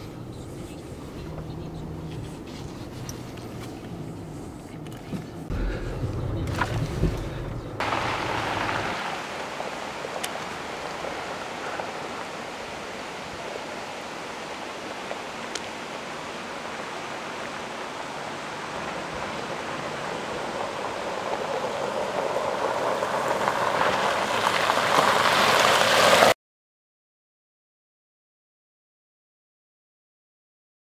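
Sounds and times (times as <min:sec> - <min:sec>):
tyres crunching on gravel: 0:00.0 - 0:26.3.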